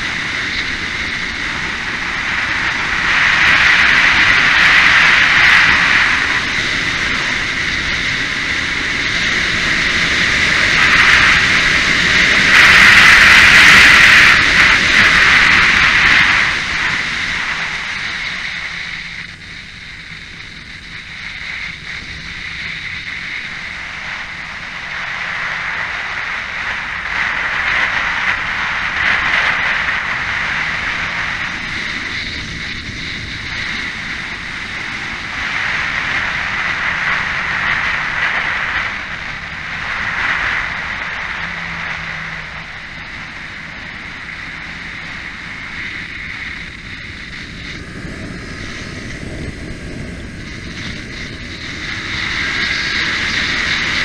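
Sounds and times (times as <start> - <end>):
motorcycle engine at speed: 0.0 - 54.0
wind rushing over microphone: 0.0 - 54.0.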